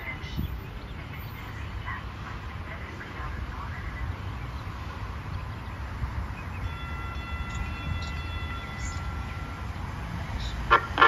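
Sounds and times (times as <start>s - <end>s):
light rail train rumble: 0.0s - 11.0s.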